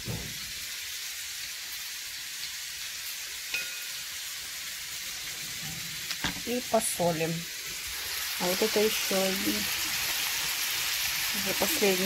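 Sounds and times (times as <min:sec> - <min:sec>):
meat sizzling in frying pan: 0:00.0 - 0:12.0.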